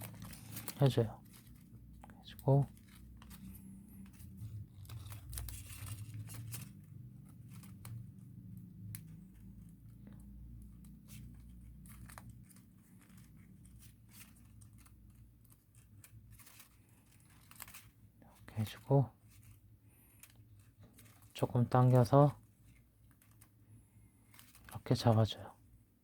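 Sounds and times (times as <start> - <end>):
paper crackles: 0.0 - 25.8
paper rustling and crinkling: 0.0 - 26.0.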